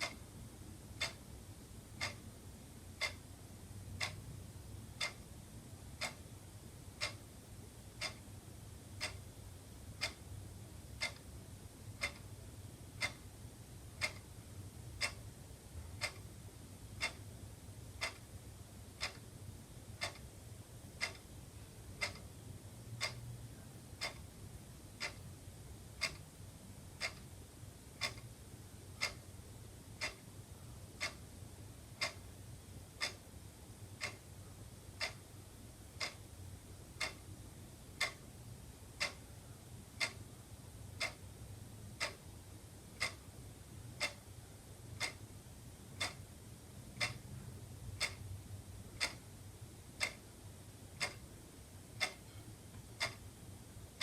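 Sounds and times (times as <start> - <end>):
faint low hum: 0.0 - 54.0
wall clock ticking: 0.0 - 54.0.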